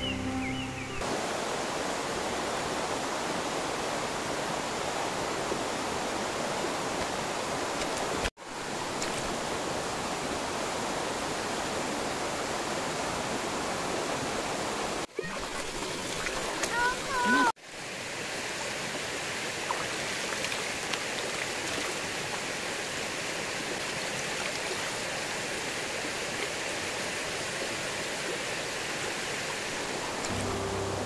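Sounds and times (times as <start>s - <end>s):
rocky stream flowing: 1.0s - 31.0s.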